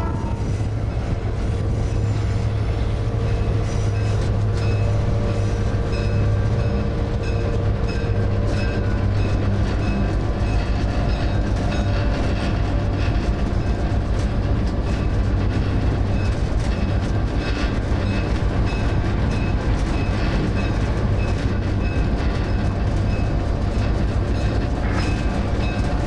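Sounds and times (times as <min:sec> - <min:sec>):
train engine drone: 0:00.0 - 0:26.0
wheels clicking and squeaking on track: 0:00.0 - 0:26.0.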